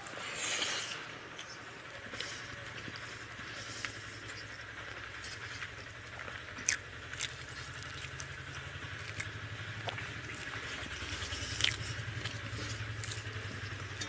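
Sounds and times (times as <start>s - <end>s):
steady low hum: 0.0s - 14.0s
soft eating clicks: 0.1s - 14.0s.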